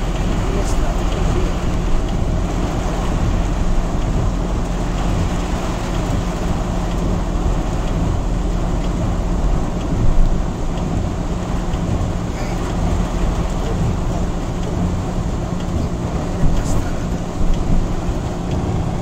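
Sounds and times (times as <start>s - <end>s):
heavy rain on car roof: 0.0s - 19.0s
low rumble: 0.0s - 19.0s.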